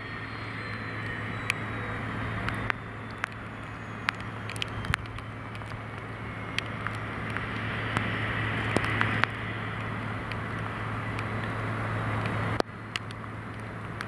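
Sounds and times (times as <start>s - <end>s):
heavy rain: 0.0s - 14.0s
raindrops ticking close: 0.0s - 14.0s
steady low hum: 0.0s - 14.0s.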